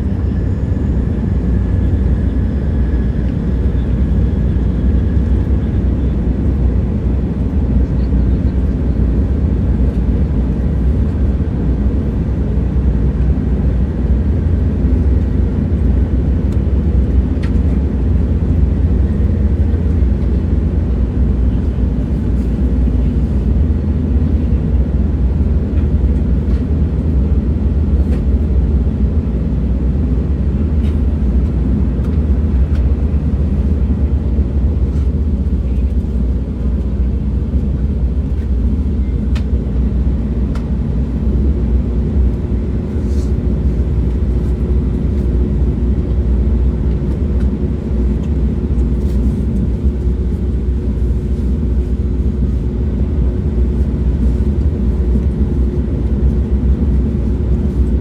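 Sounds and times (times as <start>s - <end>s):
moving train rumble: 0.0s - 58.0s.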